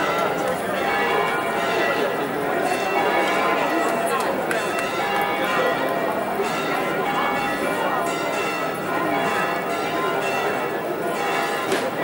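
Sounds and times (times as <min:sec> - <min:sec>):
church bells ringing: 0:00.0 - 0:12.0
crowd chatter: 0:00.0 - 0:12.0.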